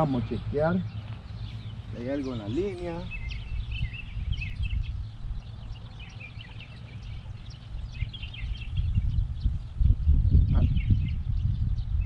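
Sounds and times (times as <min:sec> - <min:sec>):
small birds chirping: 0:00.0 - 0:12.0
wind rumble on microphone: 0:00.0 - 0:12.0.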